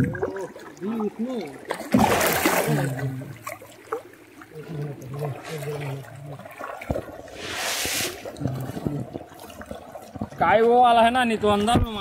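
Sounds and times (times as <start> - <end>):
pond water splashing: 0.0 - 12.0.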